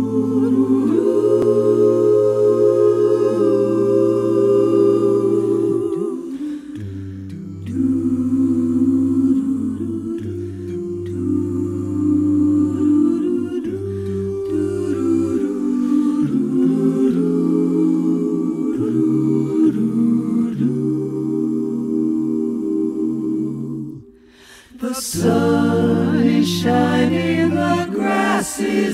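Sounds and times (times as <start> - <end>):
a cappella choral singing: 0.0 - 28.9.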